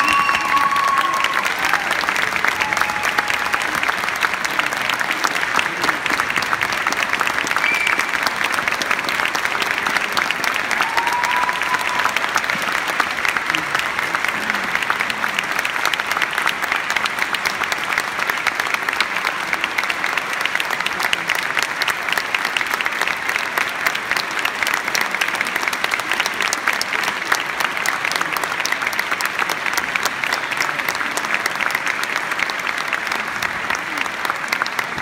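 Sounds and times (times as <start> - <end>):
audience applauding: 0.0 - 35.0.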